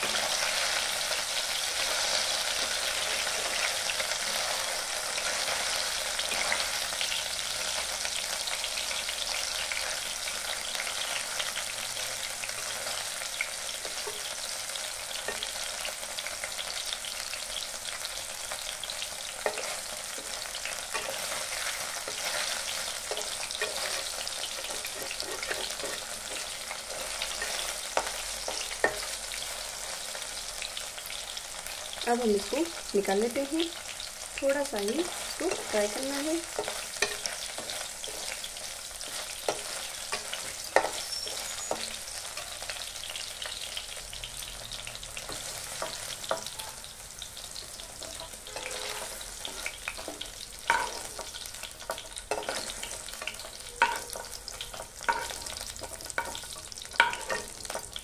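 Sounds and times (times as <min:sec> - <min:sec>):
paneer sizzling in hot oil: 0:00.0 - 0:58.0.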